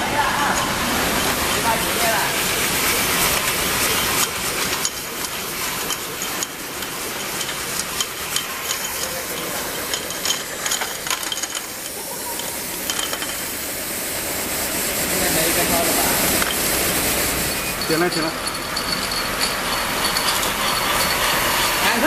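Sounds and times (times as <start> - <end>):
labeling machine hissing: 0.0 - 22.0.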